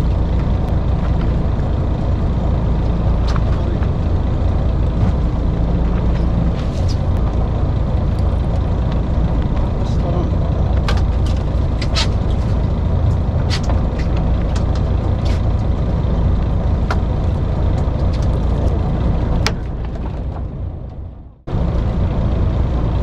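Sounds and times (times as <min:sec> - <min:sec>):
boat engine rumbling: 0:00.0 - 0:23.0.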